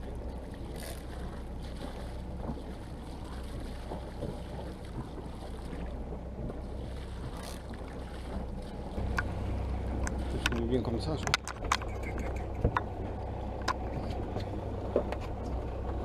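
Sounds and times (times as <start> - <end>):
low steady rumble: 0.0 - 16.0
water splashing beside a boat: 0.0 - 16.0.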